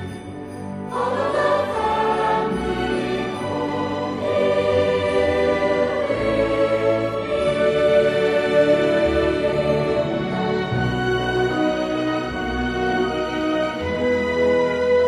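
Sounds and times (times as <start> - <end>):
orchestral accompaniment: 0.0 - 15.0
choir singing held notes: 0.9 - 13.2.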